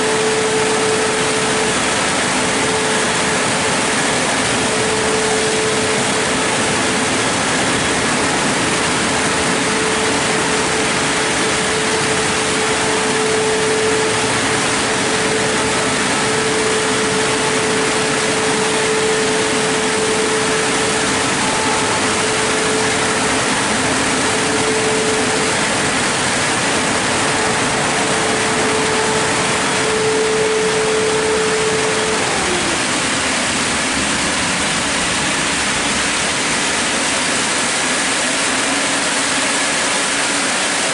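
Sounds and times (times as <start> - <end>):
car wash machine hiss: 0.0 - 40.9
machine hum: 0.0 - 40.9.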